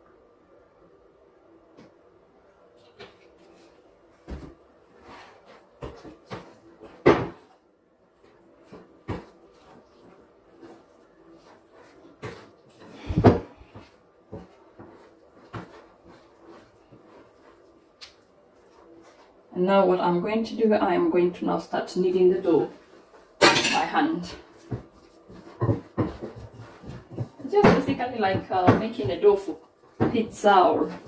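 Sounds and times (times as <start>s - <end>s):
hands mixing dough in glass bowl: 2.0s - 31.0s.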